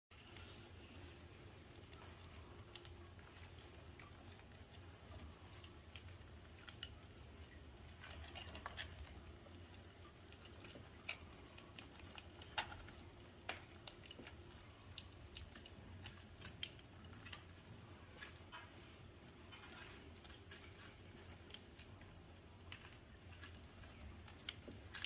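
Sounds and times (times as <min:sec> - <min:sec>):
hamsters nibbling seeds: 0:00.1 - 0:25.0.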